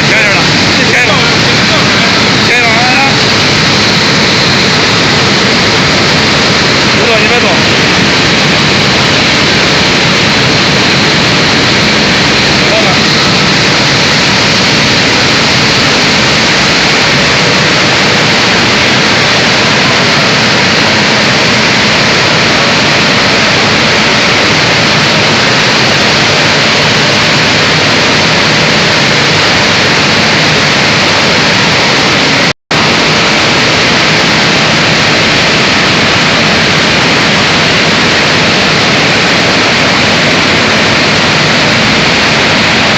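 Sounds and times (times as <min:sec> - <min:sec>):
milling machinery whirring: 0:00.0 - 0:42.9.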